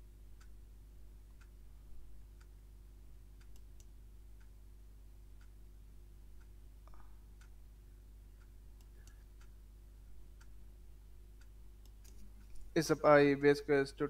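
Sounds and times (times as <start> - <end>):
faint regular ticking: 0.0 - 14.0
low steady hum: 0.0 - 14.0.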